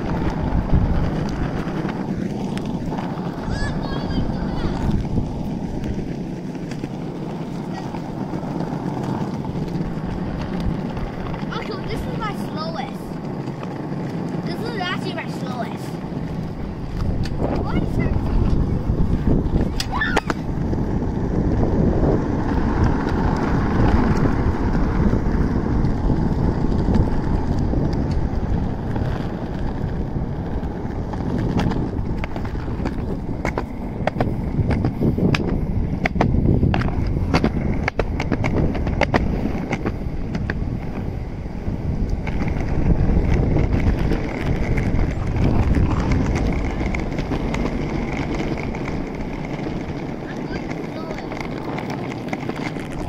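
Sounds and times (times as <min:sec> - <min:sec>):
skateboard wheels rumbling on asphalt: 0:00.0 - 0:53.0.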